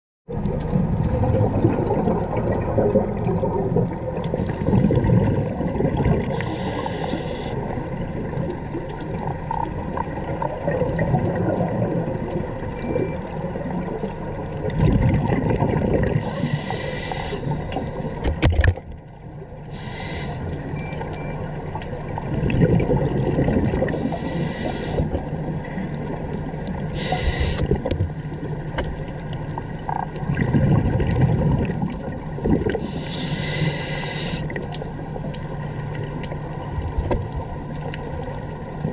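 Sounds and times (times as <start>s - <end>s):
scuba regulator bubbles rushing: 0.3s - 19.0s, 21.8s - 38.9s
muffled underwater rumble: 0.3s - 38.9s.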